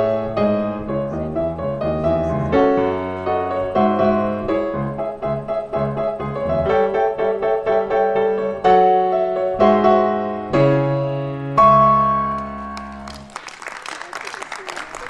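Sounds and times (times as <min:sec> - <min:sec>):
piano music: 0:00.0 - 0:13.4.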